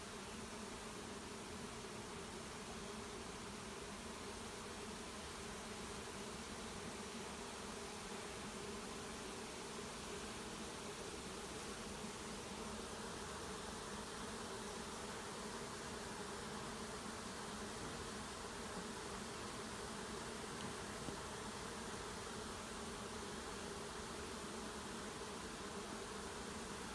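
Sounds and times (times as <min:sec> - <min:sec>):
swarm of bees buzzing: 0:00.0 - 0:26.9.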